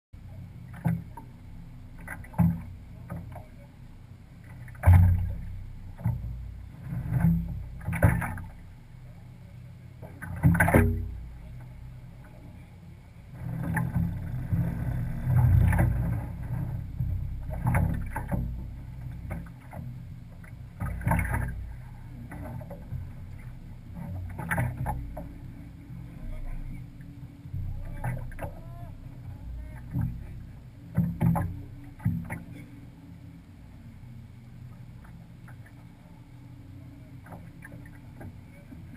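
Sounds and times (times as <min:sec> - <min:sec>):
low rumble: 0:00.2 - 0:38.9
water rushing along hull: 0:00.2 - 0:38.9.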